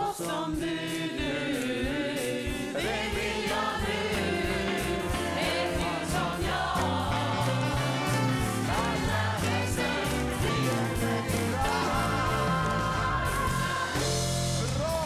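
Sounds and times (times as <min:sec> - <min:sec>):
audience singing in chorus: 0:00.0 - 0:14.7
live band playing: 0:02.8 - 0:15.0.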